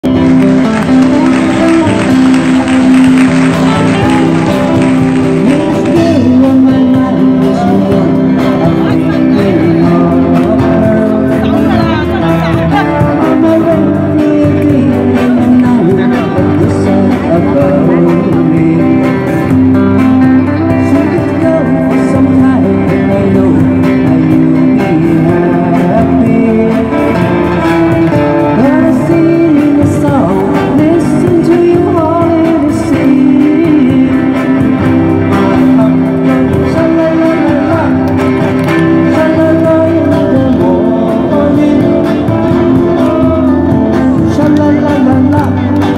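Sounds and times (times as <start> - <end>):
drum kit beat: 0.0 - 45.9
electric guitars: 0.0 - 45.9
live band pop song: 0.0 - 45.9.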